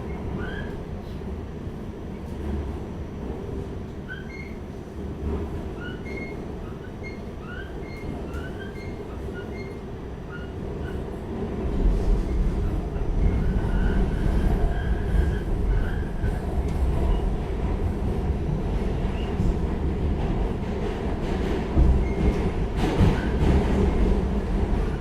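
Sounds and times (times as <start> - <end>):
rumble of wheels on track: 0.0 - 25.0.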